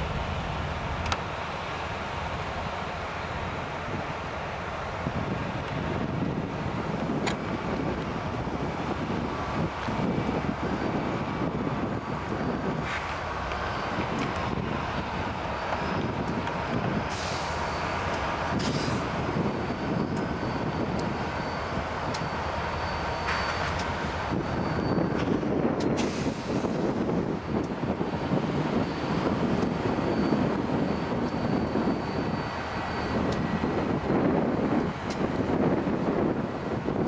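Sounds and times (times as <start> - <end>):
diesel locomotive engine rumble: 0.0 - 37.0
wheels squealing on rails: 0.0 - 37.0.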